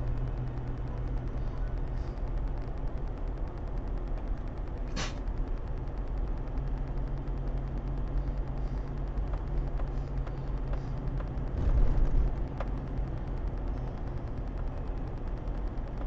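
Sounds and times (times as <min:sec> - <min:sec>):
car road and engine rumble: 0:00.0 - 0:16.0
faint ticks: 0:00.0 - 0:16.0.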